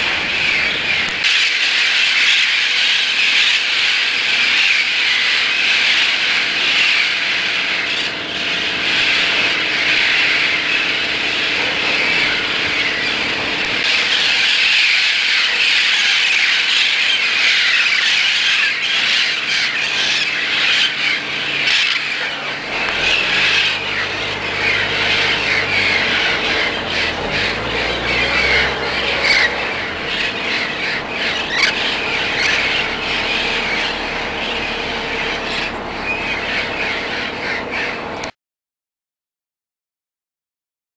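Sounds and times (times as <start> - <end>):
low engine hum: 0.0 - 38.3
parrots squawking: 0.0 - 38.3.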